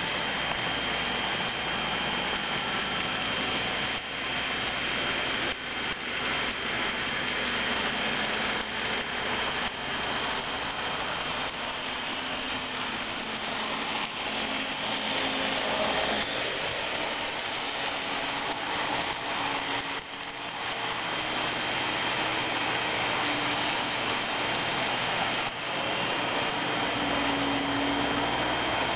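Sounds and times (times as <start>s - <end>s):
model train motor hum: 0.0s - 28.9s
wheels rattling on rails: 0.0s - 28.9s.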